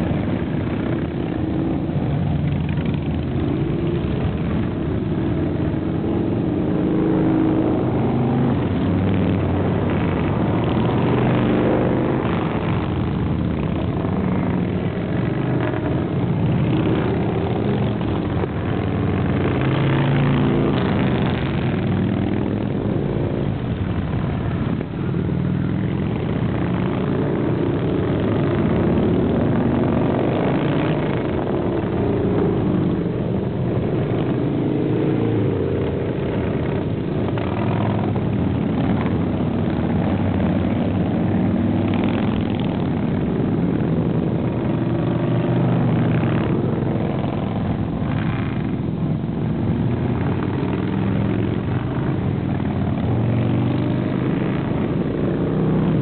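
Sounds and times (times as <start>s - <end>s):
motorcycles riding past: 0.0s - 56.0s.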